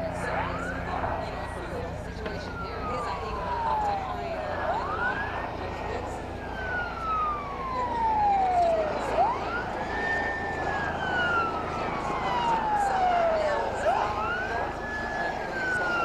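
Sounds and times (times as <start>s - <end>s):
helicopter in flight: 0.0s - 16.0s
police siren wailing: 0.0s - 16.0s.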